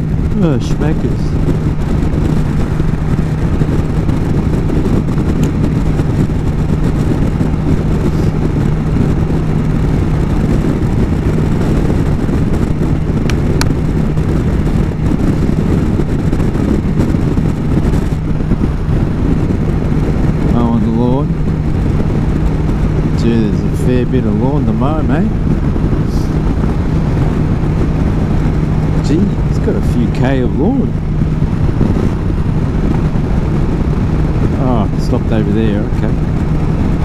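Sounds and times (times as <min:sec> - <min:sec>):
motorcycle engine running steadily: 0:00.0 - 0:37.0
wind rush on microphone: 0:00.0 - 0:37.0.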